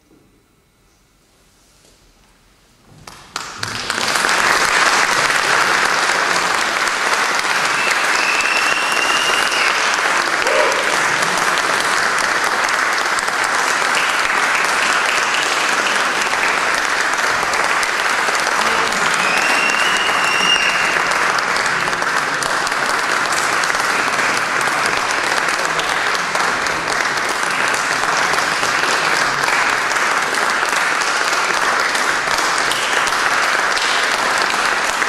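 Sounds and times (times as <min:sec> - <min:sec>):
audience applause: 0:03.0 - 0:35.0.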